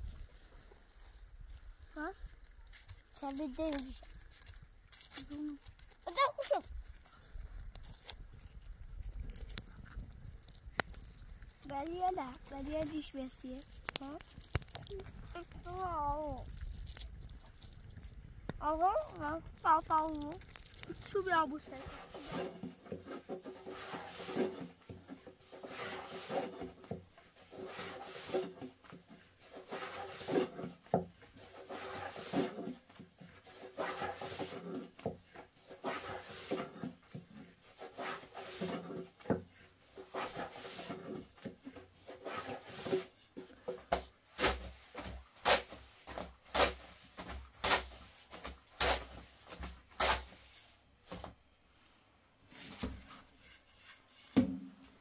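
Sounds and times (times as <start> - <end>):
rubbing and scraping on wood: 0.0 - 7.2, 7.8 - 51.4, 52.5 - 55.0.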